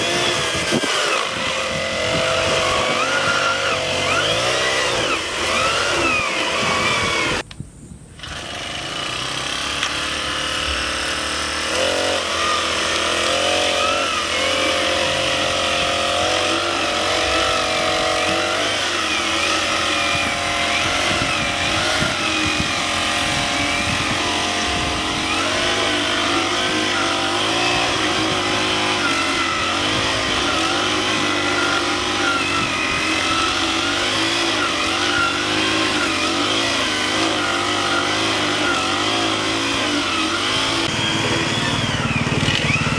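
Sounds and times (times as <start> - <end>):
small engine running under load: 0.0 - 7.5, 8.2 - 42.9.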